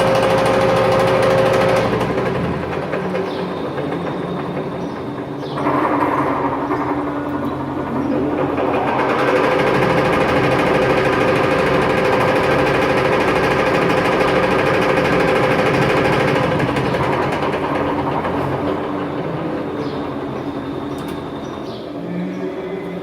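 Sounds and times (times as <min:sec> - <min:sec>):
metal lathe whine and rattle: 0:00.0 - 0:23.0.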